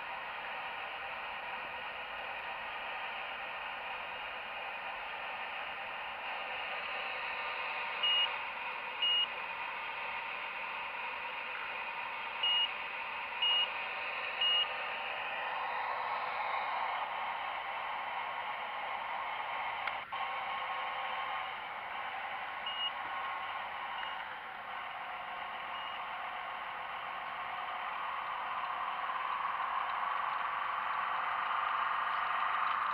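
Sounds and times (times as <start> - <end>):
excavator pump whirring: 0.0 - 32.9.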